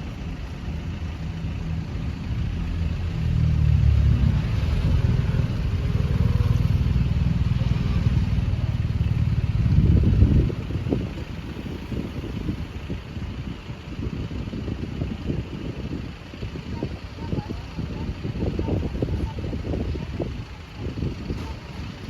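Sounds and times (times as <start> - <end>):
heavy vehicle rumbling past: 0.0 - 22.0.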